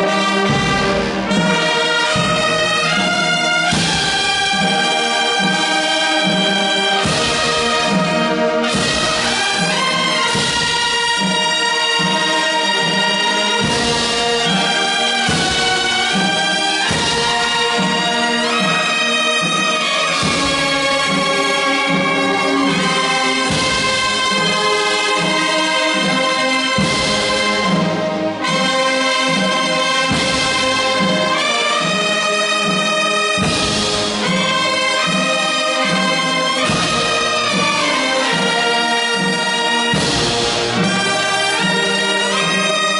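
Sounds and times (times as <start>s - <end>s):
wind band playing chords: 0.0s - 42.9s.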